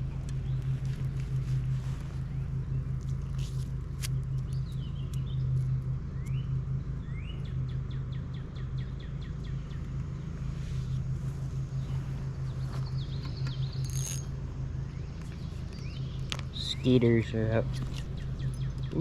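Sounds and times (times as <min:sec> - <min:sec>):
songbirds chirping and trilling: 0:00.0 - 0:19.0
steady low hum: 0:00.0 - 0:19.0.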